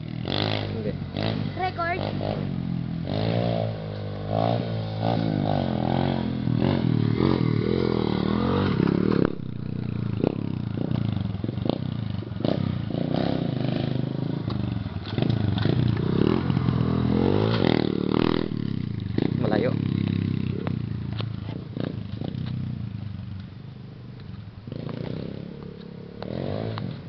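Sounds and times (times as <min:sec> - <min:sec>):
motorbike engine revving: 0:00.0 - 0:23.3, 0:24.6 - 0:27.0.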